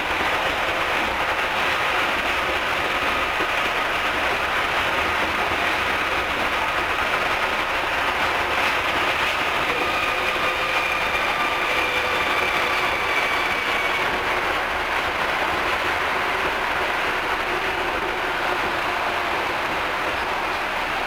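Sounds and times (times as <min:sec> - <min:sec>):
train tyres rumbling on track: 0:00.0 - 0:21.0.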